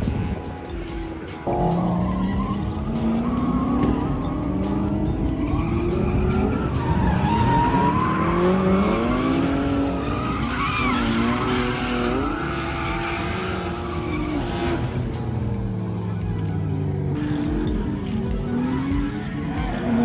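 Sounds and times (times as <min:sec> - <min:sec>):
car engine revving: 0:00.0 - 0:20.0
tires skidding and squealing: 0:00.0 - 0:20.0.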